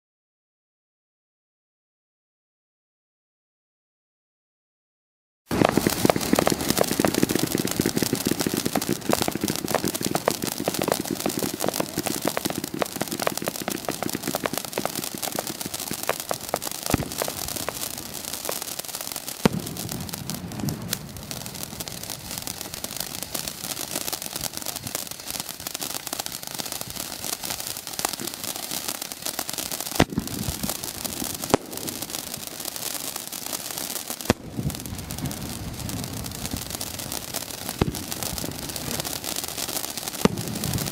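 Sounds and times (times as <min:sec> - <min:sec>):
firework fountain hissing and crackling: 0:05.5 - 0:40.9
sharp firework pops: 0:05.5 - 0:40.9.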